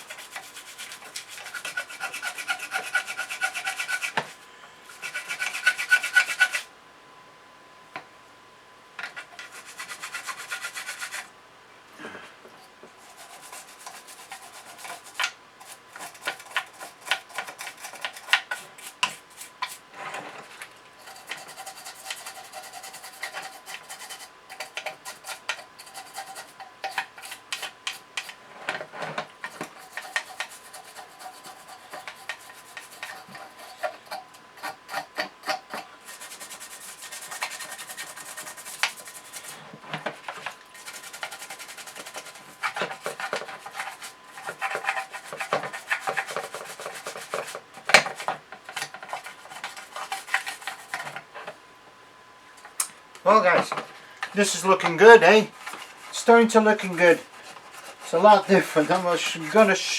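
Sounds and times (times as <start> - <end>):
toothbrush scrubbing metal: 0.0 - 4.3, 4.9 - 6.7, 9.1 - 11.3, 13.0 - 19.8, 20.5 - 28.4, 29.4 - 51.2, 54.4 - 59.9.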